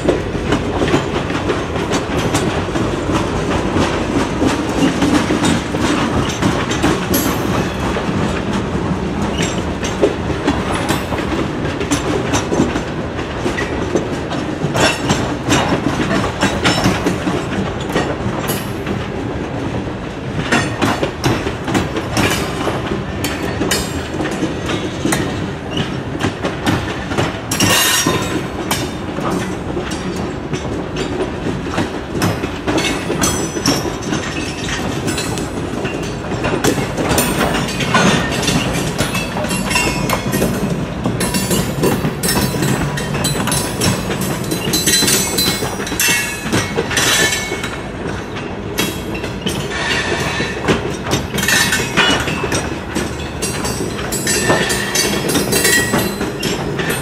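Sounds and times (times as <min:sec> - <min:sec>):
train wheels rumbling on rail: 0:00.0 - 0:57.0
wheels clicking over rail joints: 0:00.0 - 0:57.0.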